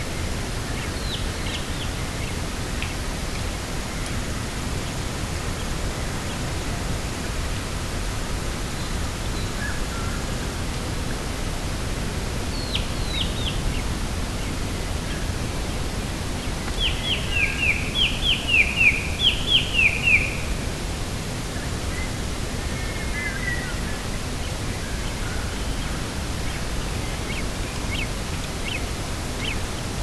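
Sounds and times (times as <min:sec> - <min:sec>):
low rushing outdoor noise: 0:00.0 - 0:30.0.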